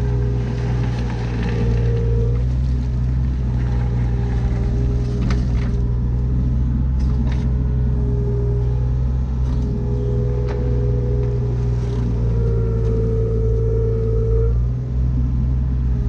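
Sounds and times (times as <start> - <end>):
excavator diesel engine running: 0.0 - 16.0
hydraulic whine: 0.0 - 16.0.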